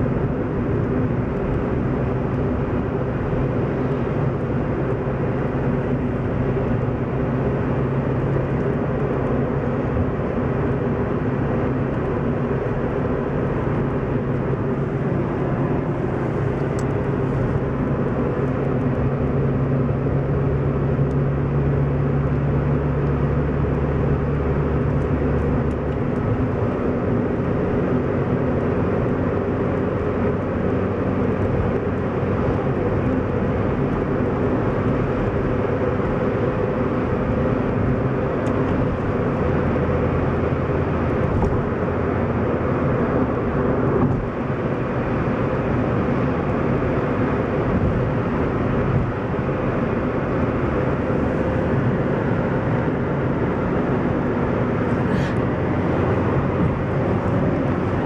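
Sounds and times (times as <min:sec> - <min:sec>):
car engine hum: 0:00.0 - 0:58.0
tyre and road noise: 0:00.0 - 0:58.0.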